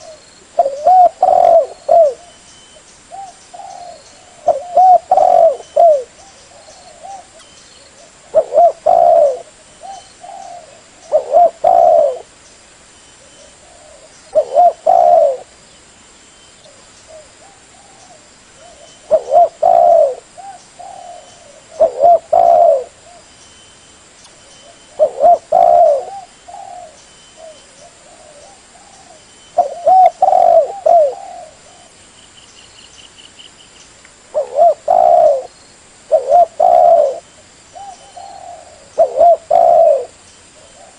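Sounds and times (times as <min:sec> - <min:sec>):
dove cooing: 0:00.0 - 0:02.4, 0:03.1 - 0:12.3, 0:13.2 - 0:15.6, 0:16.7 - 0:23.3, 0:24.5 - 0:32.0, 0:34.3 - 0:40.9.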